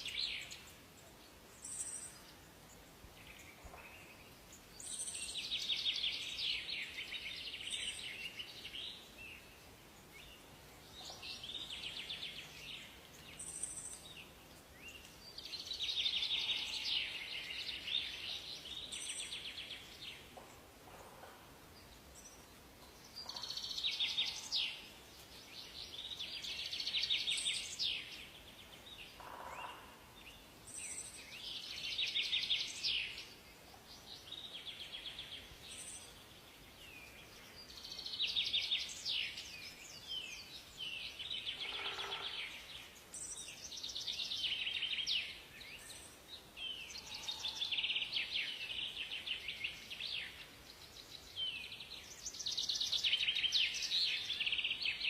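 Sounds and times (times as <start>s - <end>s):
faint forest background: 0.0s - 55.0s.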